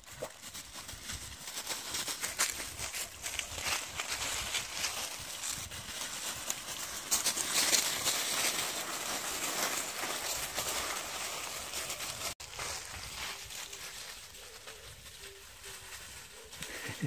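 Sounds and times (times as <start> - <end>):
dry leaves rustling and crunching: 0.0 - 17.0.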